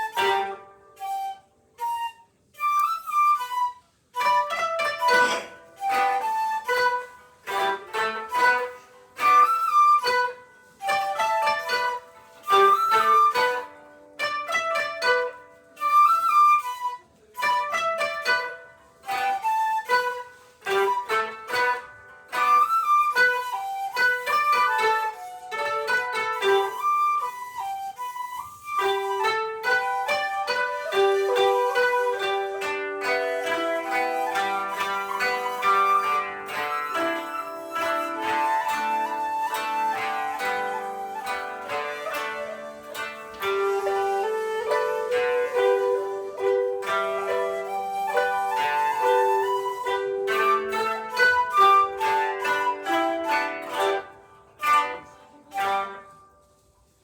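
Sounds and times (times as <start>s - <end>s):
koto: 0.0s - 57.0s
shakuhachi flute: 0.0s - 57.0s.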